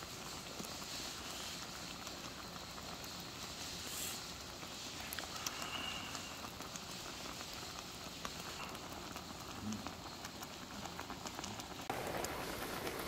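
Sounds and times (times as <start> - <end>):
broth boiling in a pot: 0.0 - 13.0.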